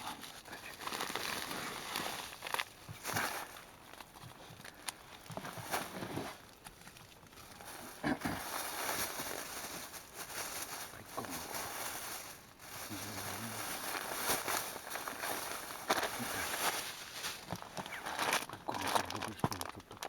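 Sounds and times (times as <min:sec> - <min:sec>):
handling noise rustling: 0:00.1 - 0:20.0.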